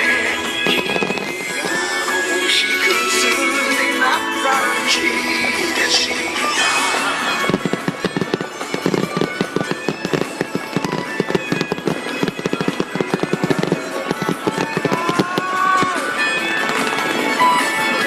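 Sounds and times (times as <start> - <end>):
fireworks popping and crackling: 0.0 - 4.2, 4.8 - 18.0
music: 0.0 - 18.0.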